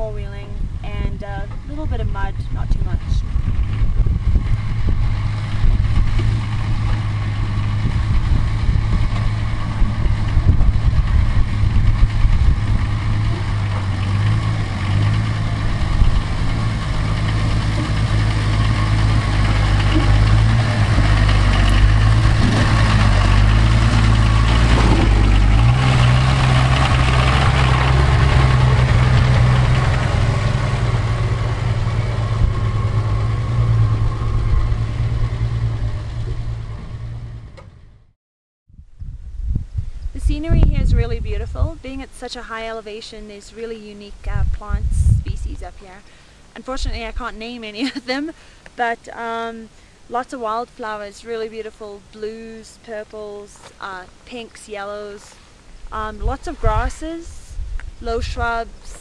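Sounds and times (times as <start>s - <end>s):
truck engine running at low revs: 0.0s - 43.3s, 44.0s - 51.0s.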